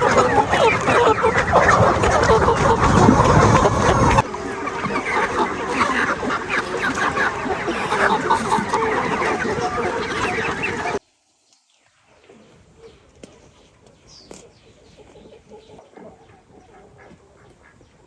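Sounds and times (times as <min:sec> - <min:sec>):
chickens clucking: 0:00.0 - 0:11.0, 0:12.3 - 0:18.0.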